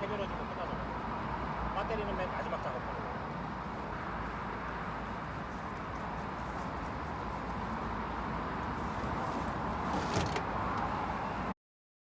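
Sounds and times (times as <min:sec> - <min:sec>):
vehicle running noise: 0:00.0 - 0:11.5.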